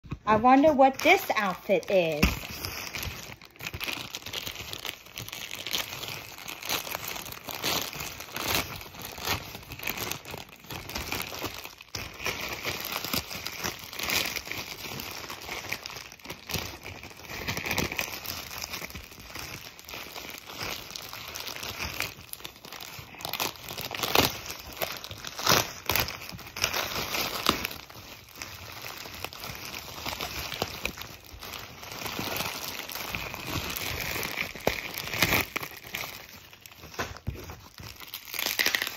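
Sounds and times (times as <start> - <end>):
plastic mailer crinkling: 0.0 - 38.9.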